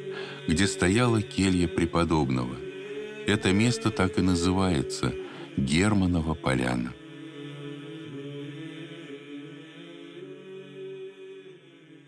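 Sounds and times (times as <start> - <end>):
choir chanting low notes: 0.0 - 12.0.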